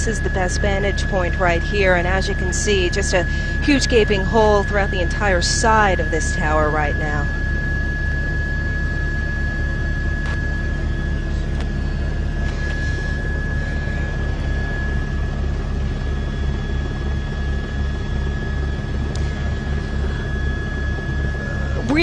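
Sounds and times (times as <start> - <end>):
helicopter rotor throbbing: 0.0 - 22.0
helicopter turbine whine: 0.0 - 22.0.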